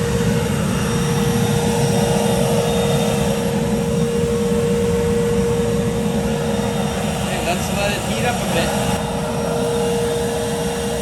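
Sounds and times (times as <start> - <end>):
furnace flame roaring: 0.0 - 11.0
vacuum motor whine: 0.0 - 11.0.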